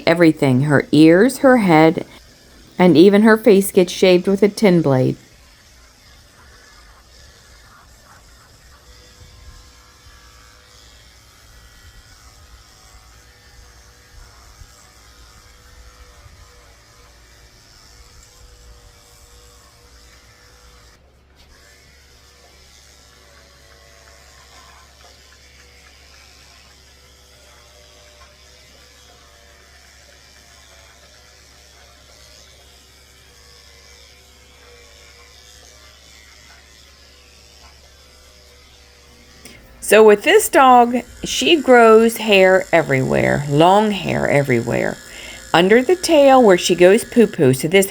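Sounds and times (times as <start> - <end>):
electric clippers humming: 0.0 - 47.9.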